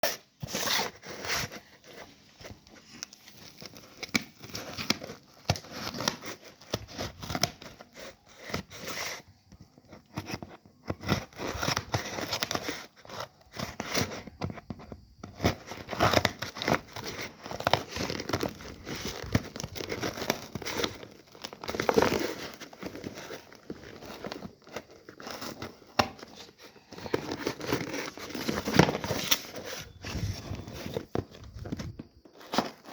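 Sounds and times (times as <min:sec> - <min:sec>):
packaging tearing and crinkling: 0:00.0 - 0:09.2, 0:15.2 - 0:32.9.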